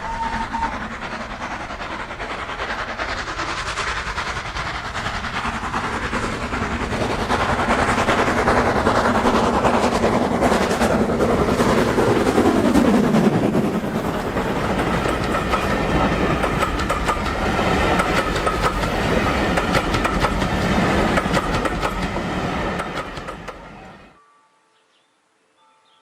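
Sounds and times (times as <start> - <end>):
model train wheels clicking: 0.3 - 23.6.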